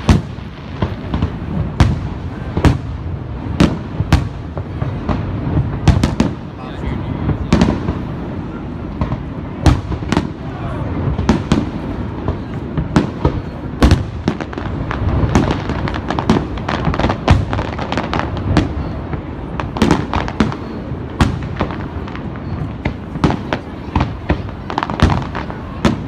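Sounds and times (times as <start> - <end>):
background noise: 0.0 - 26.0
fireworks bangs and cracks: 0.0 - 26.0.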